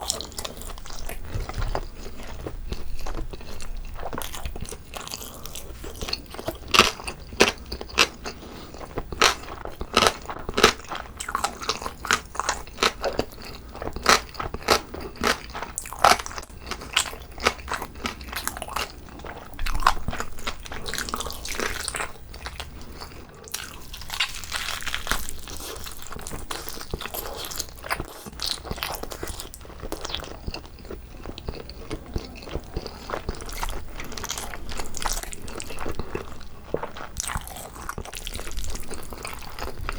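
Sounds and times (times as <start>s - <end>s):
crunchy chewing close up: 0.0s - 39.9s.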